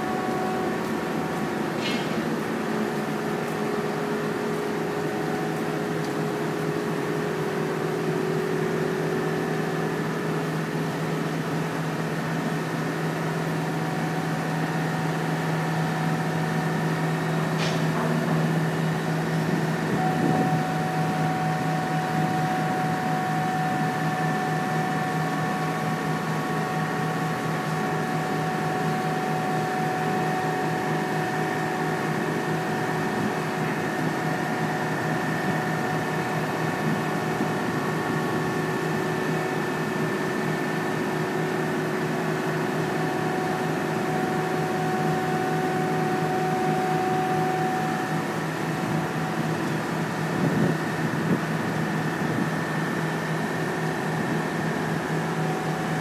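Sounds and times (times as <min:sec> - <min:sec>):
heavy machinery humming: 0:00.0 - 0:56.0.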